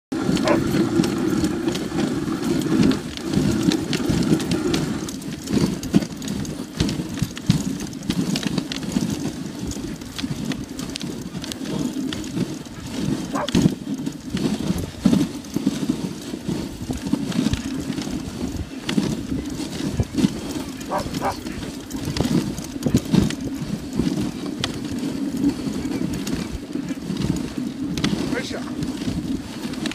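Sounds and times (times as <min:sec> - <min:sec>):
sled knocks and rattles: 0:00.1 - 0:29.9
sled runners scraping over snow: 0:00.1 - 0:29.9.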